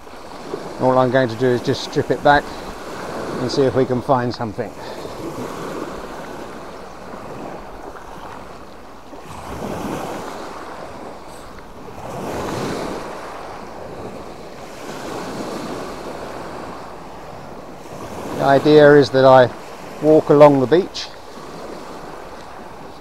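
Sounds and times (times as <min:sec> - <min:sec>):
sea waves washing onto beach: 0:00.0 - 0:23.0.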